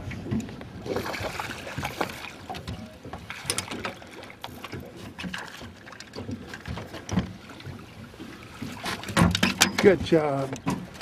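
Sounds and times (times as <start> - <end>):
fish thrashing and splashing: 0.8 - 10.2.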